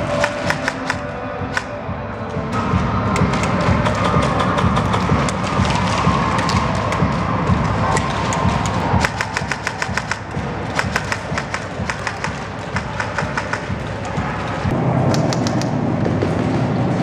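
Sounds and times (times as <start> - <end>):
rapid airsoft gunfire: 0.0 - 1.7, 3.2 - 15.8.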